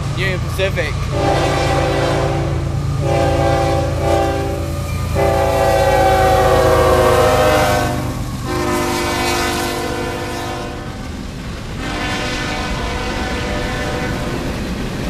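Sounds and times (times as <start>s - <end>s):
locomotive engine rumble: 0.0s - 15.0s
rolling train cars: 0.0s - 15.0s
locomotive air horn blasts: 1.1s - 11.0s, 11.8s - 14.4s.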